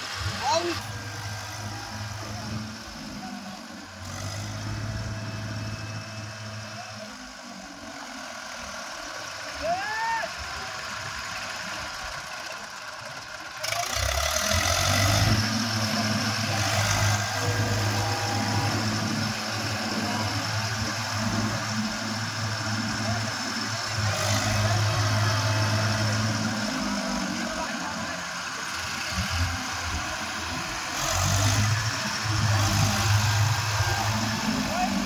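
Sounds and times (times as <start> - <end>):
tractor engines under load: 0.0 - 35.0.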